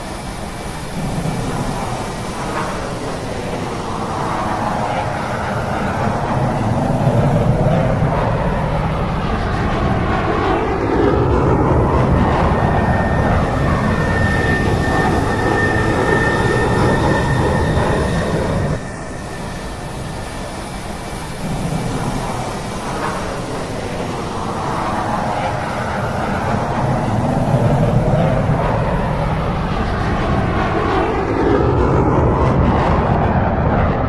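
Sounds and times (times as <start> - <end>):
thin high whine: 0.0 - 32.2
heavy engine drone: 0.0 - 33.7.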